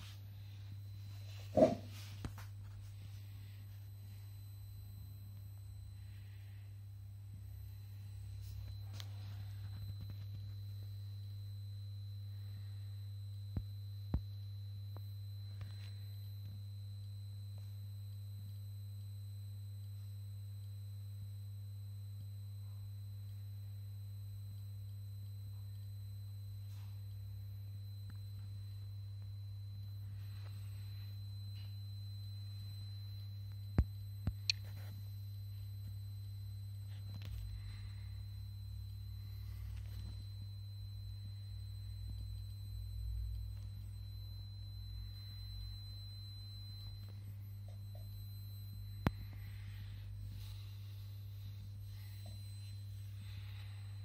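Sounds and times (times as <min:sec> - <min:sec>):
electrical hum: 0:00.0 - 0:54.0
faint high whine: 0:00.0 - 0:54.0.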